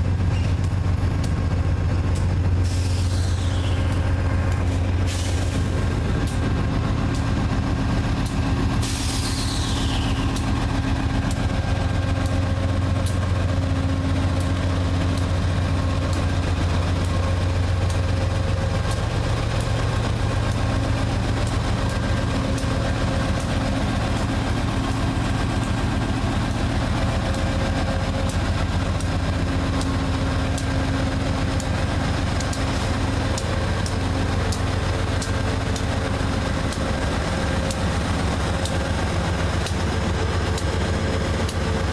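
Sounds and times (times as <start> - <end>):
locomotive diesel engine humming: 0.0 - 41.9.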